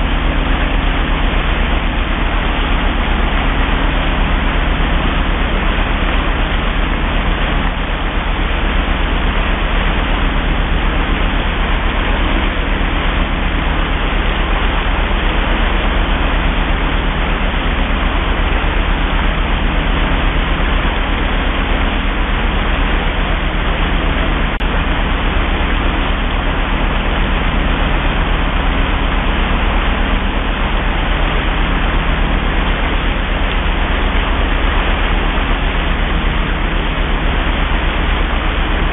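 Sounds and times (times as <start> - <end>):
low engine drone: 0.0 - 38.9
wake water rushing: 0.0 - 38.9.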